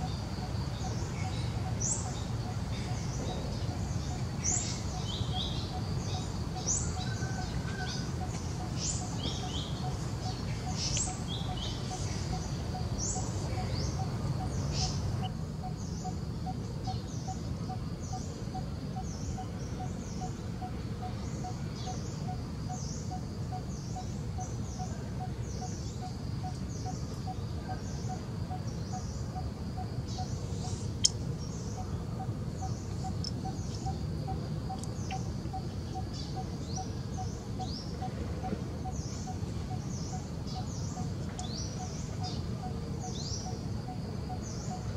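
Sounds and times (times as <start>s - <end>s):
birds chirping: 0.0s - 44.9s
high insect-like whine: 0.0s - 44.9s.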